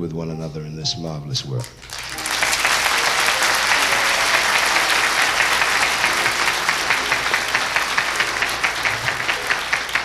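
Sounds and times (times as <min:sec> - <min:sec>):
audience applauding: 0:01.7 - 0:10.0.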